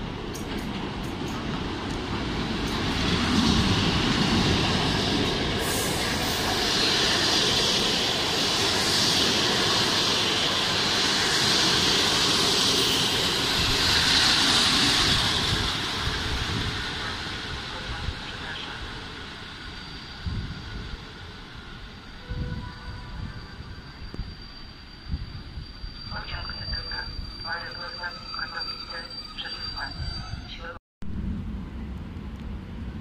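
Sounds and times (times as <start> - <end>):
train wheels rumbling on rails: 0.0 - 29.1.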